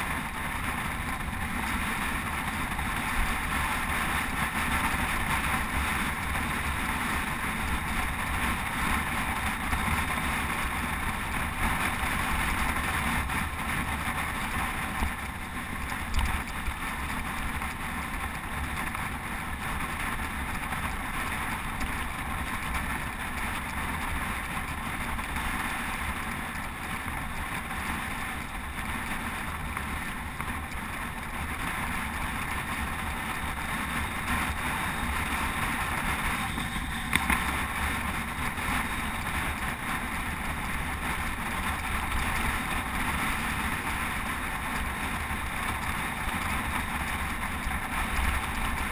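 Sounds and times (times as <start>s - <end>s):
wind rush on microphone: 0.0s - 48.9s.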